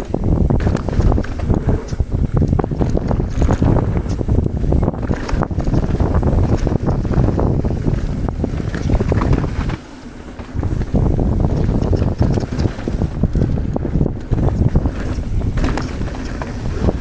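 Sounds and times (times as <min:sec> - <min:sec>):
bike rattling on dirt trail: 0:00.0 - 0:17.0
wind buffeting microphone: 0:00.0 - 0:17.0.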